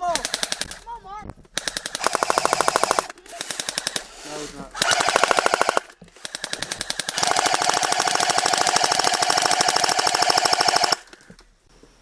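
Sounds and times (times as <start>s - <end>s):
airsoft rifle firing bursts: 0.0s - 0.8s, 1.5s - 4.2s, 4.8s - 11.2s.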